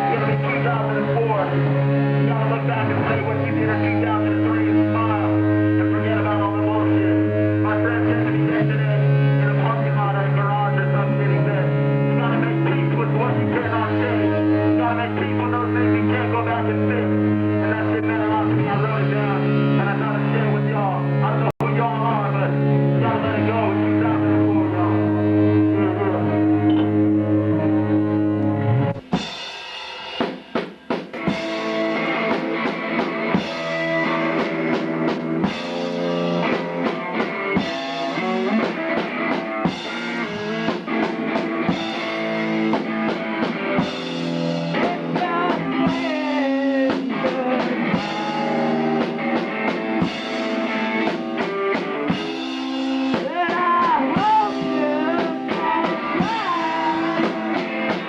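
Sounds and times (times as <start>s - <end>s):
held low notes: 0.0s - 29.3s, 31.1s - 58.0s
rock drum kit and guitar: 0.0s - 58.0s.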